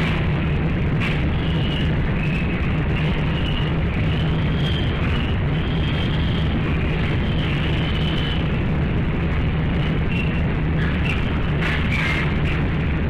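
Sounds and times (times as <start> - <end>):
rumble and hum of pig shed: 0.0 - 13.0.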